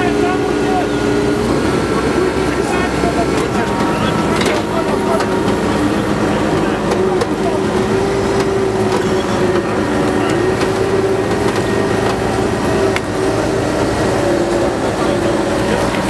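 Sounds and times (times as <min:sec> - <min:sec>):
engine running at high revs: 0:00.0 - 0:16.0.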